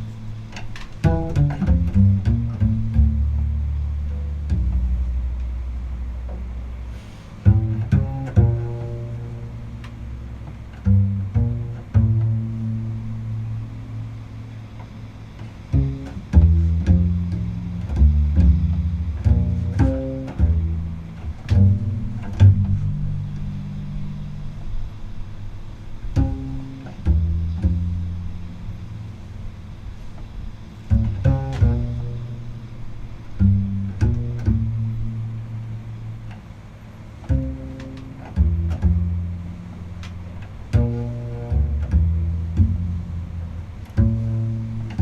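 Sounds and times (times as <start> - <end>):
double bass plucked notes: 0.0 - 45.0.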